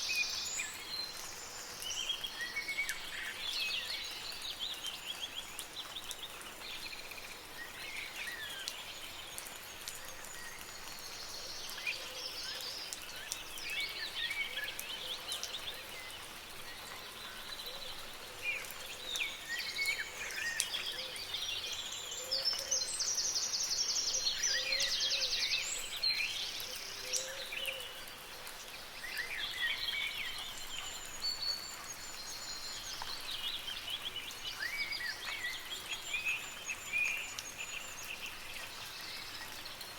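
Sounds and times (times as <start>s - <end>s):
light rain hiss: 0.0s - 39.9s
songbirds singing and calling: 0.0s - 39.9s.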